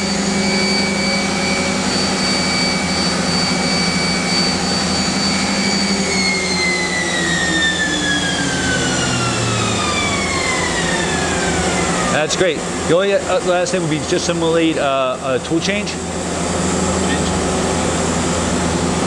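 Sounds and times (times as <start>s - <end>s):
machine spindle whine: 0.0s - 19.0s.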